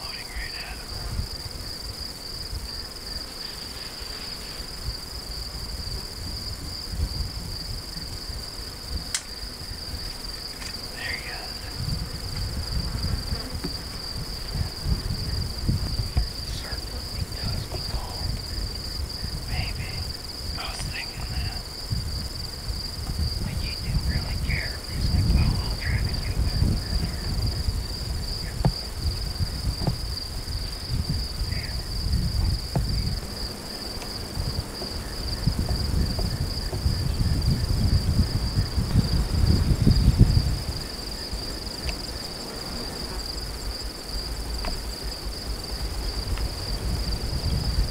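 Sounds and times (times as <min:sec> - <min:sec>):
crickets chirping: 0:00.0 - 0:47.9
low rumbles on microphone: 0:04.7 - 0:41.5, 0:43.3 - 0:47.9.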